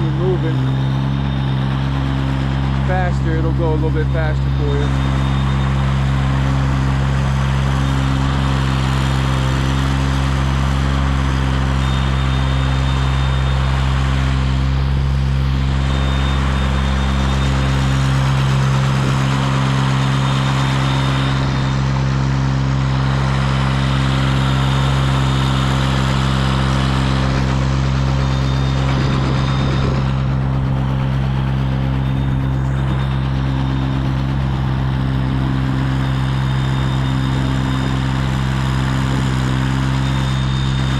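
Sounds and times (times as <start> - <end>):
aerial lift engine running: 0.0 - 40.9.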